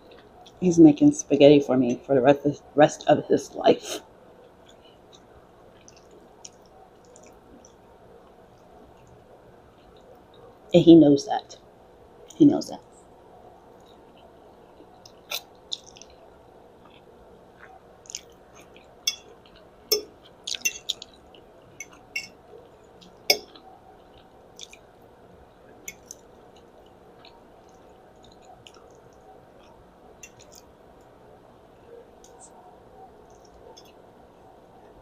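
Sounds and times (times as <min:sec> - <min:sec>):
chewing with wet clicks: 0:00.0 - 0:00.6, 0:04.4 - 0:10.7, 0:11.6 - 0:31.2, 0:31.8 - 0:35.0.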